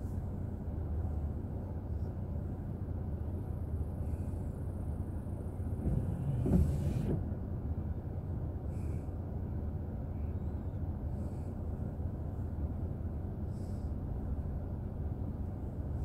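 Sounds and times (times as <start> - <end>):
engine and tyre rumble inside car: 0.0 - 16.0.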